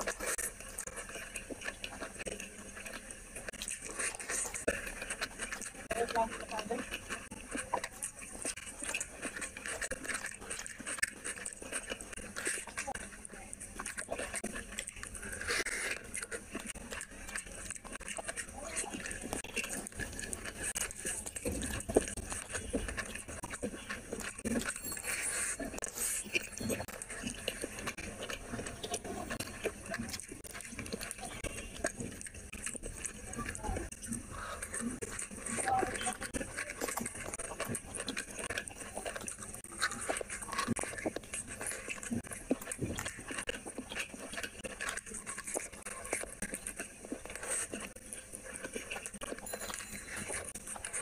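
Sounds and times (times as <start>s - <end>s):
wet chewing and smacking: 0.0s - 51.0s.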